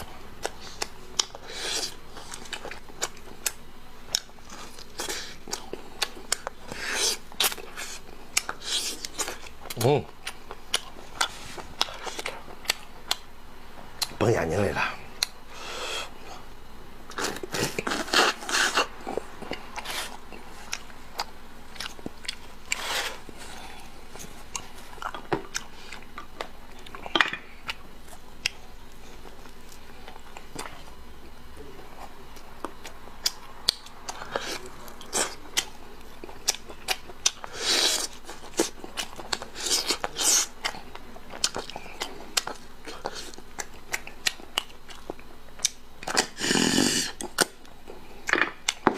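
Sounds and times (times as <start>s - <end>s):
person chewing and biting: 0.0s - 13.3s, 17.1s - 48.9s.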